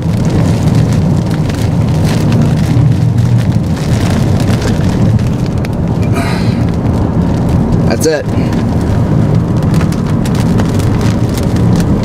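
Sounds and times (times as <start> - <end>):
vehicle road and engine rumble: 0.0 - 12.0.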